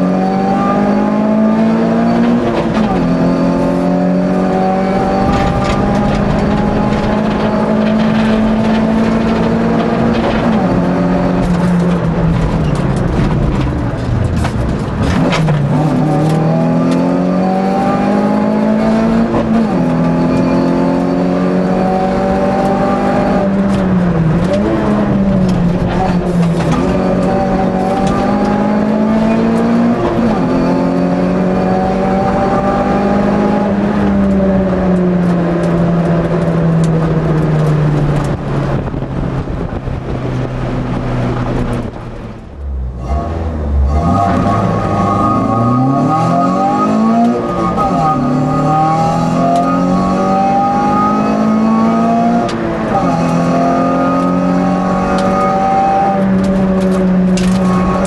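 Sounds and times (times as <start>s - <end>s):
race car engine revving hard: 0.0s - 39.0s, 42.9s - 58.0s.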